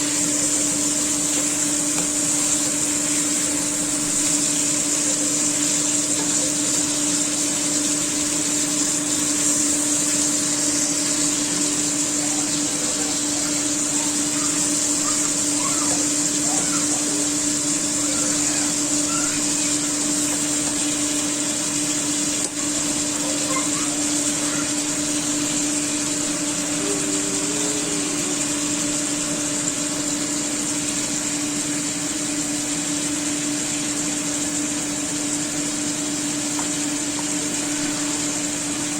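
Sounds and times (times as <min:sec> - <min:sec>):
electric motor hum: 0:00.0 - 0:38.9.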